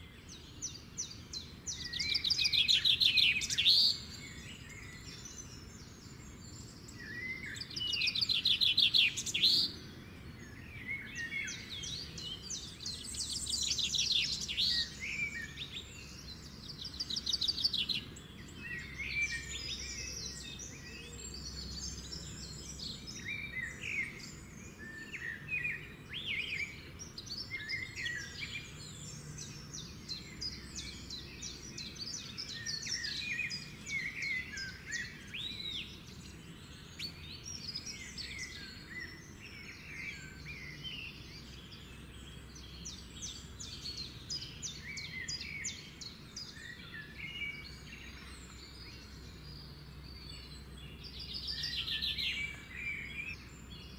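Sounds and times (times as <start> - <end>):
birds chirping and singing: 0.0 - 53.9
faint steady background noise: 0.0 - 53.9.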